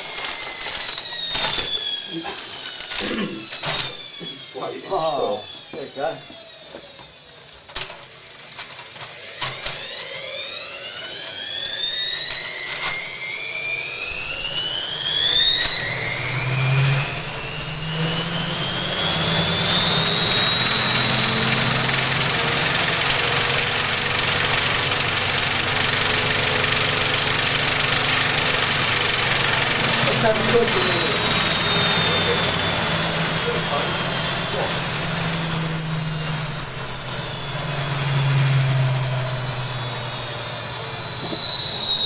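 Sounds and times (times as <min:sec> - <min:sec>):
washing machine spinning: 0:00.0 - 0:07.3, 0:09.2 - 0:42.0.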